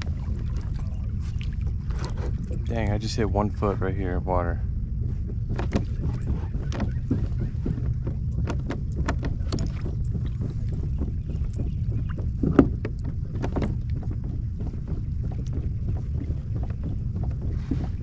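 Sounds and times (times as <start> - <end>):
water lapping against kayak hull: 0.0 - 18.0
wind rumble on microphone: 0.0 - 18.0.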